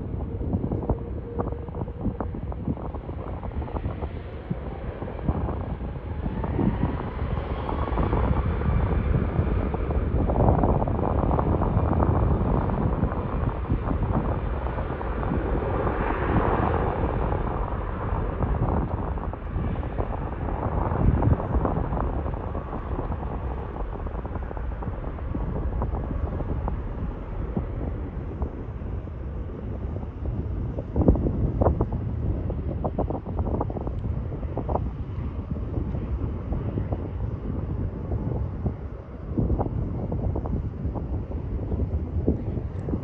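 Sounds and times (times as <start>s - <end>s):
jet airliner engines roaring: 0.0s - 43.0s.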